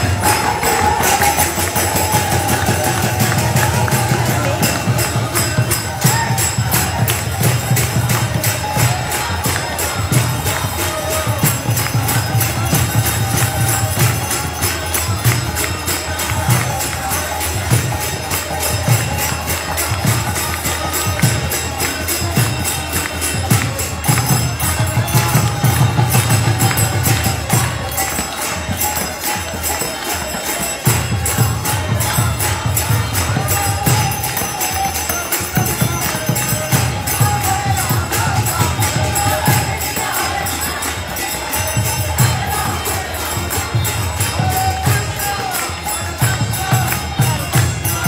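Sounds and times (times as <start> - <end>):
group of voices singing: 0.0 - 48.0
harmonium: 0.0 - 48.0
mridanga drum beating: 0.0 - 48.0
small hand cymbals: 0.0 - 48.0.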